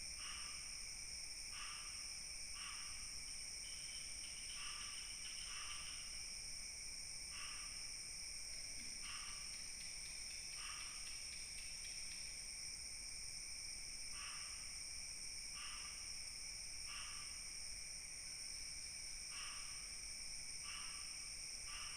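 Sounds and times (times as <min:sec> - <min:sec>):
cricket chirps: 0:00.0 - 0:21.9
insect trills: 0:01.5 - 0:06.5, 0:07.2 - 0:21.9.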